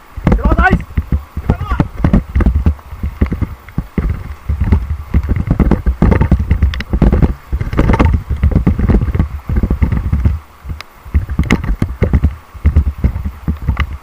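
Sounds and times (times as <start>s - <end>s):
paddles splashing in river water: 0.0s - 14.0s
wind buffeting on microphone: 0.0s - 14.0s.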